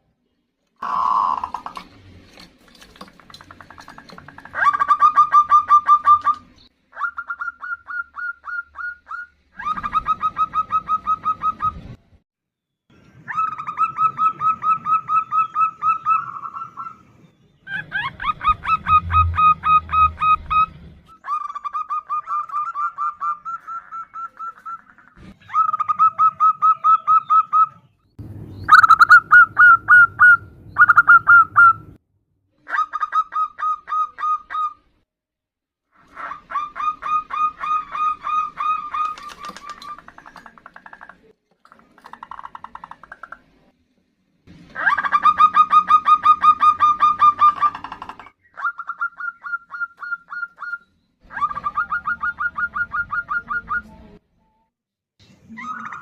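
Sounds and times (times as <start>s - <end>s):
doves calling: 0.8s - 12.0s, 13.0s - 32.0s, 36.0s - 43.5s, 44.6s - 54.2s.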